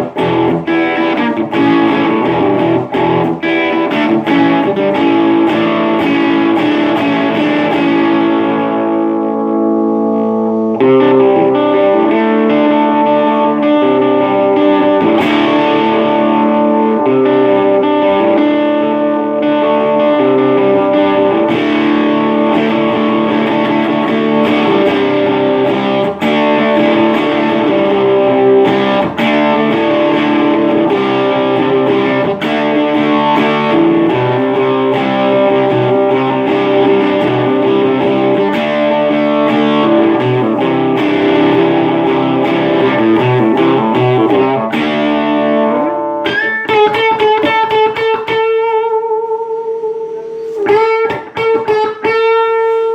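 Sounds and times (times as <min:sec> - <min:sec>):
distorted electric guitar chords: 0:00.0 - 0:52.9
guitar single notes ringing: 0:00.0 - 0:52.9.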